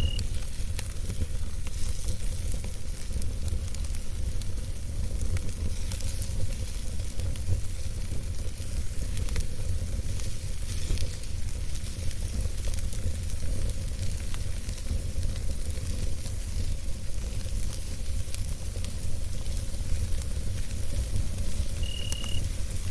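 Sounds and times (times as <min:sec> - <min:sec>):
campfire crackling: 0:00.0 - 0:22.9.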